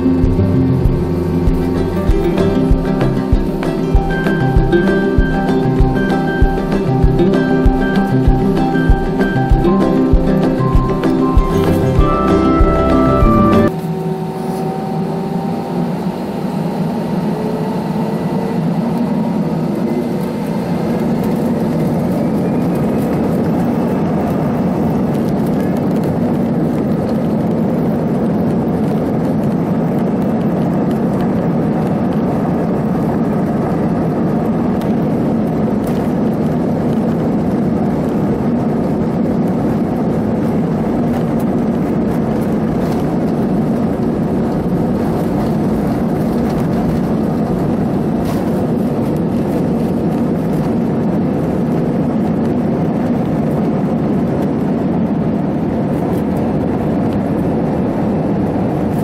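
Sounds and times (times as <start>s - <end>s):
jet engines rushing in cabin: 0.0s - 59.0s.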